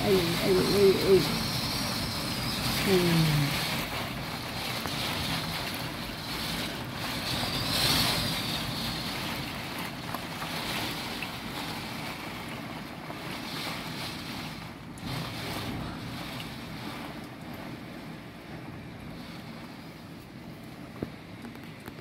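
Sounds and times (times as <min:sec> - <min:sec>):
gusting wind: 0:00.0 - 0:22.0
heavy rain against window: 0:00.0 - 0:22.0.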